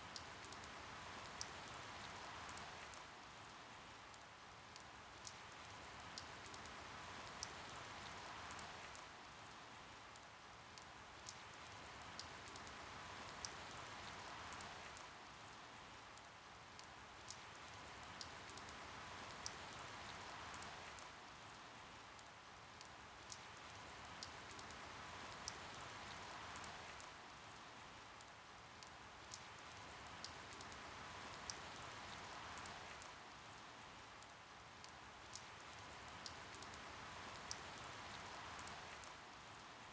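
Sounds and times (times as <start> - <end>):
soft steady rain: 0.0 - 39.9
rain drop ticks: 0.1 - 9.1, 10.0 - 15.1, 16.0 - 39.7.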